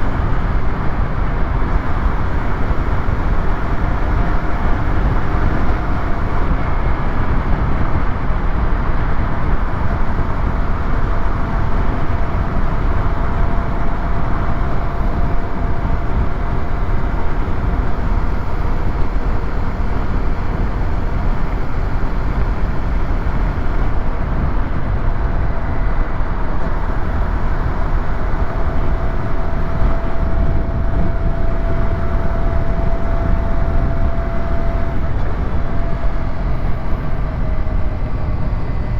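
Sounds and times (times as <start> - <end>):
wind rushing on microphone: 0.0 - 38.9.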